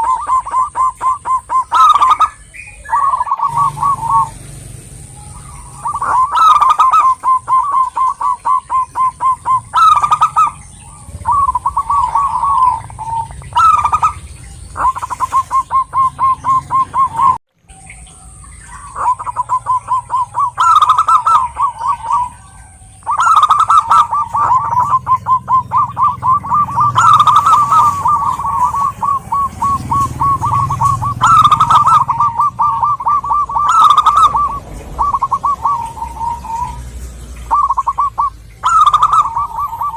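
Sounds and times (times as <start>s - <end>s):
dove cooing song: 0.0s - 39.9s.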